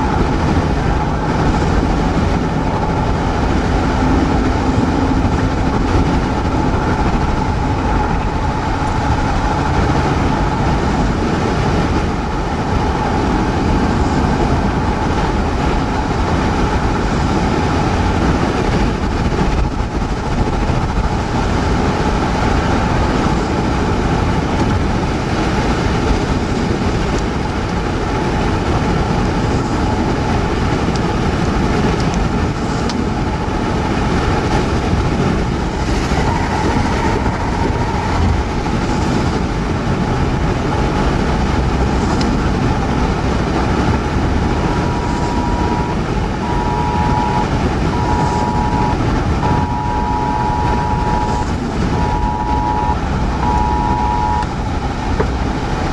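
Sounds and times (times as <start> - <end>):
car road noise: 0.0 - 55.9
strong wind roaring: 0.0 - 55.9.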